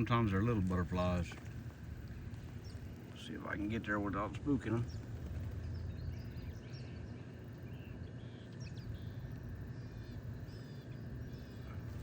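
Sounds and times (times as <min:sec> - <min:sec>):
faint bird chirps and trills: 0:00.0 - 0:12.0
steady low rumble: 0:00.0 - 0:12.0.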